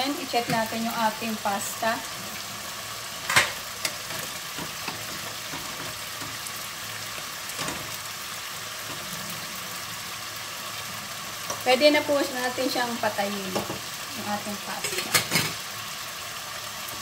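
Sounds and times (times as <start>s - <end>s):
chicken sizzling in butter: 0.0s - 17.0s.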